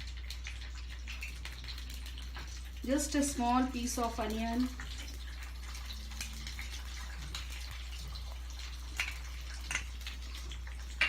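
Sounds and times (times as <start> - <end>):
seeds sizzling in hot fat: 0.0 - 11.0.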